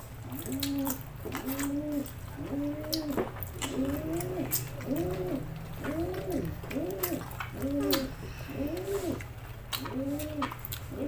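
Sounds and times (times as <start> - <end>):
dove cooing: 0.2 - 11.0
chewing and lip-smacking clicks: 0.3 - 11.0.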